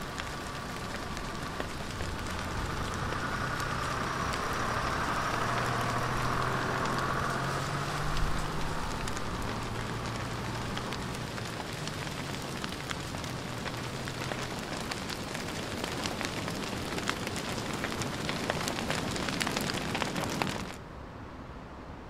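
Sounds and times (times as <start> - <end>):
truck engine driving away: 0.0 - 20.7
hiss with crackling clicks: 0.0 - 20.8.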